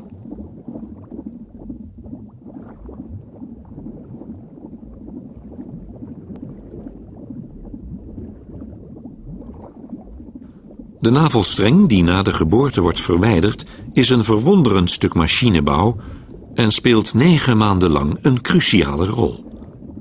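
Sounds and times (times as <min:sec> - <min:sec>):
watery gurgling and rumbling: 0:00.0 - 0:20.0.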